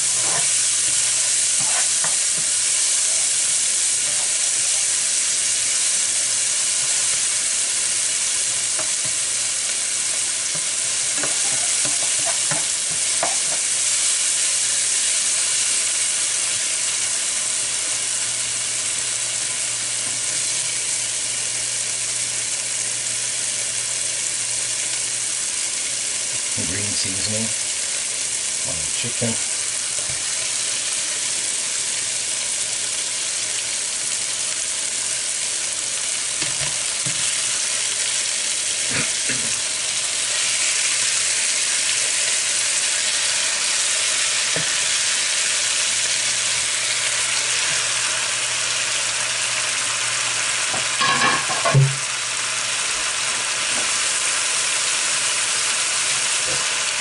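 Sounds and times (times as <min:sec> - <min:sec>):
chicken sizzling in a frying pan: 0:00.0 - 0:57.0.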